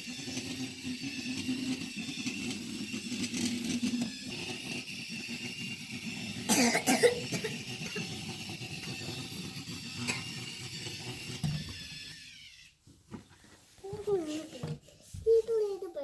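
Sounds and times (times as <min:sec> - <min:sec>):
toy motor whirring: 0:00.0 - 0:12.8, 0:13.8 - 0:16.0.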